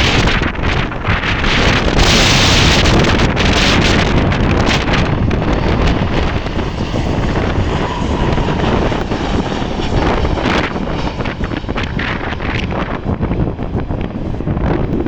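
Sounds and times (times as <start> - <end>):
jet airliner engines: 0.0 - 15.0
wind buffeting microphone: 0.0 - 15.0.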